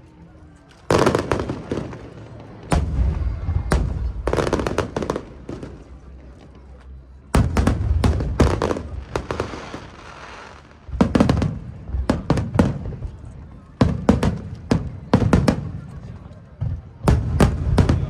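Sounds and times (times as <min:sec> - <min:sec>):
fireworks bangs: 0:00.9 - 0:06.7, 0:07.3 - 0:13.2, 0:13.8 - 0:18.0.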